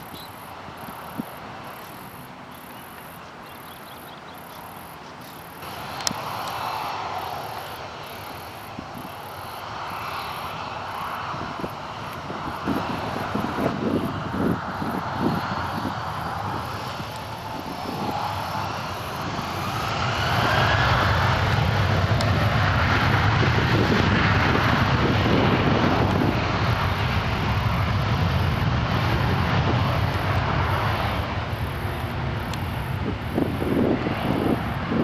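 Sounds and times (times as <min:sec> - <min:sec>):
jet engines whining and rushing: 0:00.0 - 0:35.0.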